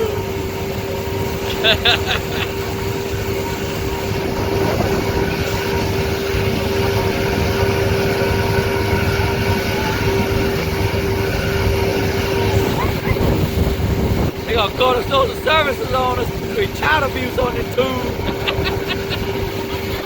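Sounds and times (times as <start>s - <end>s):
motorboat engine droning: 0.0s - 20.0s
water noise: 0.0s - 20.0s
wind noise on microphone: 0.0s - 20.0s.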